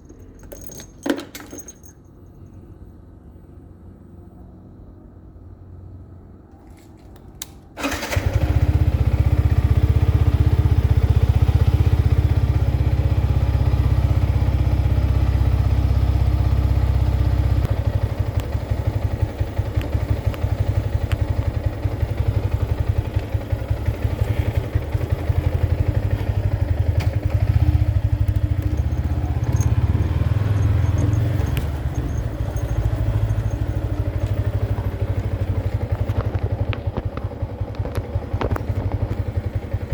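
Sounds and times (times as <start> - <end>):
motorcycle engine starting and running: 7.4 - 39.9.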